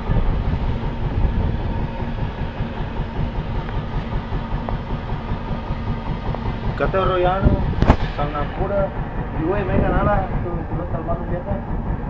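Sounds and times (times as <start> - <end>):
wind on microphone: 0.0 - 4.7, 6.2 - 11.3
boat engine rumble: 0.0 - 12.0
water rushing past hull: 0.0 - 12.0.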